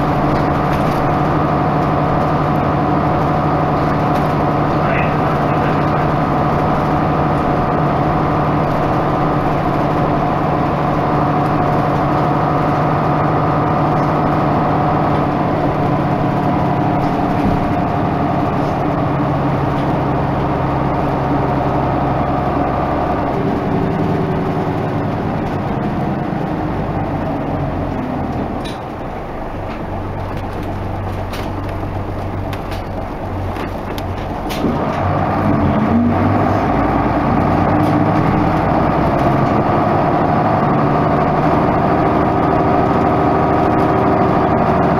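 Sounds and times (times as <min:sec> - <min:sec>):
diesel bus engine running: 0:00.0 - 0:44.9.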